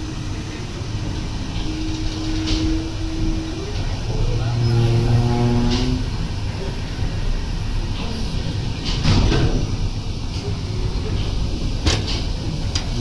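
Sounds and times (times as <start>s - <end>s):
paddle wheel churning water: 0.0s - 13.0s
water rushing swishes: 0.0s - 13.0s.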